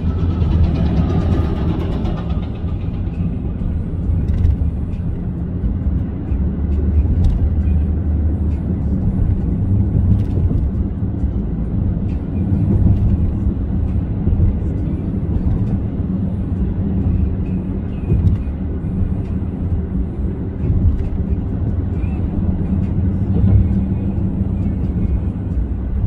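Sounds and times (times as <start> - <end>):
vehicle cabin rumble: 0.0 - 26.0.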